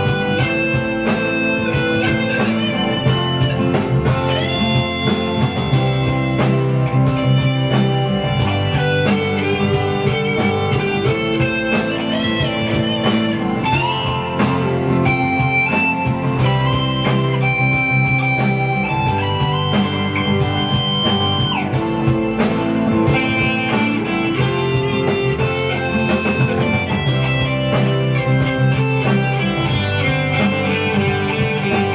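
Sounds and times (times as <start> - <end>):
electric guitar lead line: 0.0 - 31.9.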